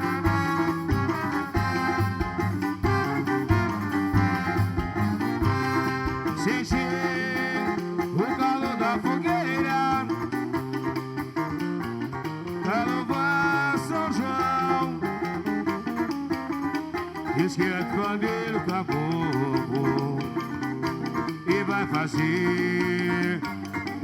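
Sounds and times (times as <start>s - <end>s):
band playing instrumental: 0.0s - 24.0s.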